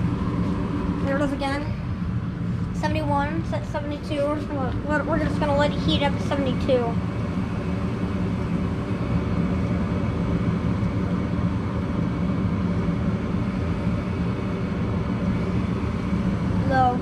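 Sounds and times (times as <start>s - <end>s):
gas furnace humming: 0.0s - 17.0s.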